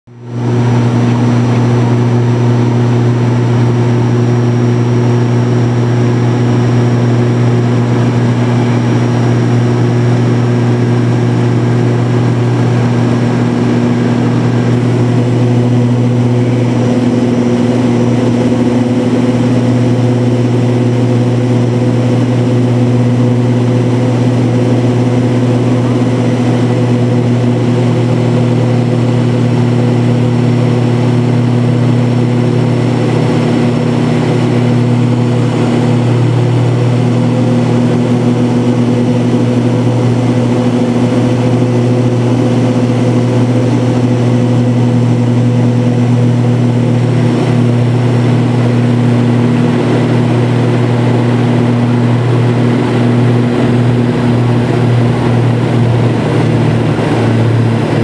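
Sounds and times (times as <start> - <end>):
turboprop engines droning: 0.1 - 58.0
airflow rushing: 0.2 - 58.0.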